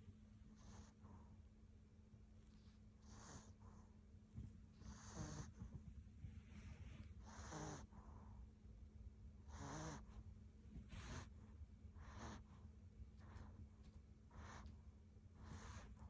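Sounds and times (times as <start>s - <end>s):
puppy snoring softly: 0.5s - 1.5s, 2.4s - 8.6s, 9.3s - 16.0s.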